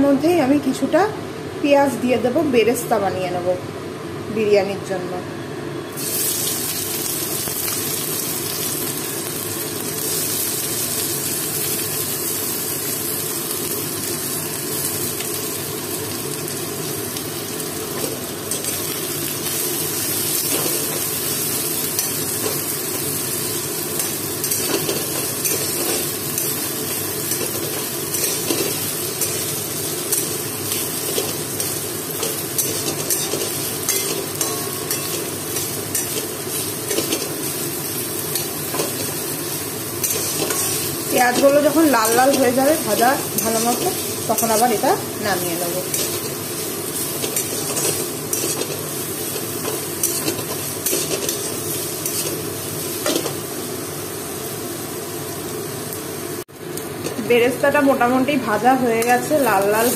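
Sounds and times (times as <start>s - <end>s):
onions sizzling in hot oil: 5.9s - 59.9s.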